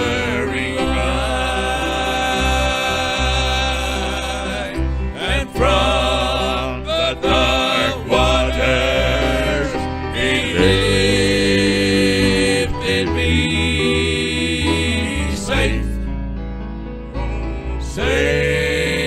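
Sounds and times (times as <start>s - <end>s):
instrumental hymn with wavering notes: 0.0s - 19.0s.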